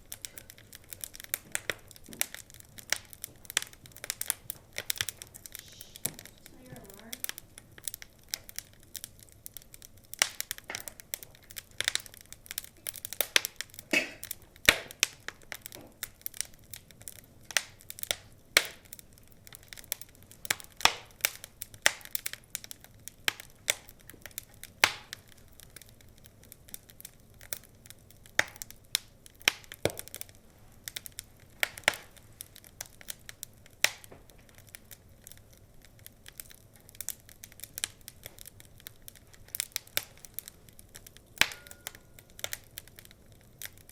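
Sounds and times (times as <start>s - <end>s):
sharp snaps of burning logs: 0.0s - 43.9s
wood fire crackling: 0.0s - 43.9s.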